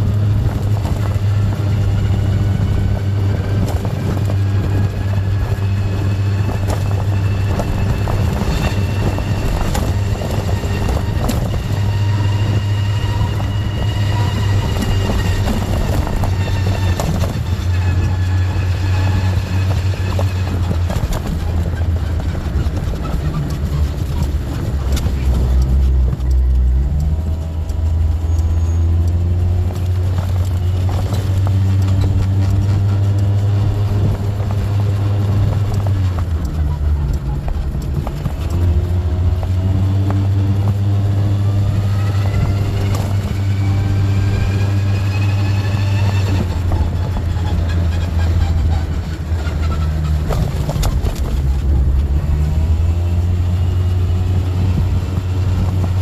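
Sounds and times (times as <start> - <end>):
scooter engine: 0.0 - 56.0.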